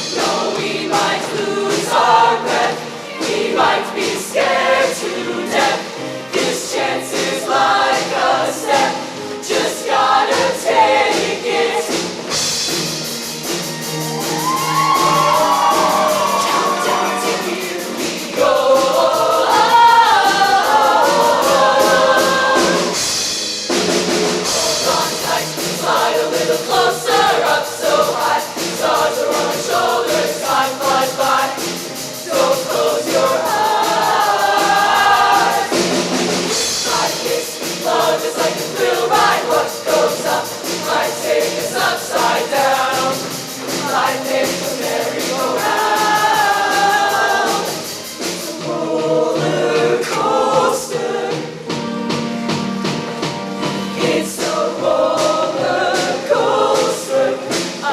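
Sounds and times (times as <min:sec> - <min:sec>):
choir singing in harmony: 0:00.0 - 0:57.9.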